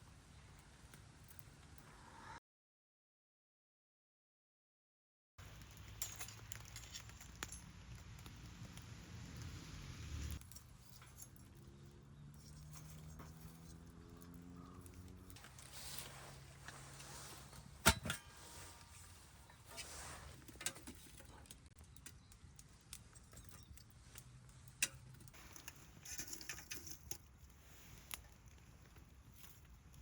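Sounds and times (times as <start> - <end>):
wood fire crackling and popping: 5.4 - 30.0.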